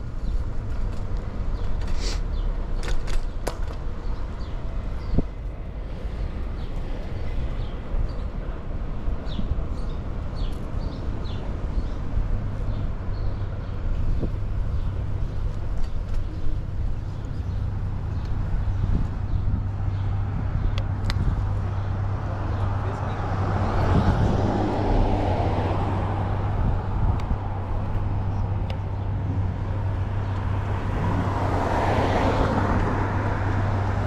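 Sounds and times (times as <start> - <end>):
traffic rumble: 0.0 - 34.0
wind: 0.0 - 34.0.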